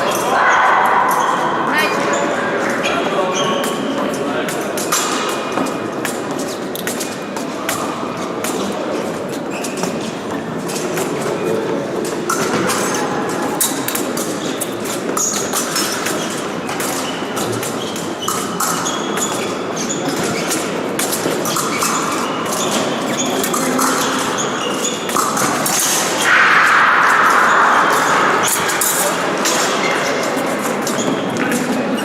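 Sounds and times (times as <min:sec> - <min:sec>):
shoe squeaks: 0:00.5 - 0:11.1, 0:12.3 - 0:26.4, 0:27.1 - 0:32.0.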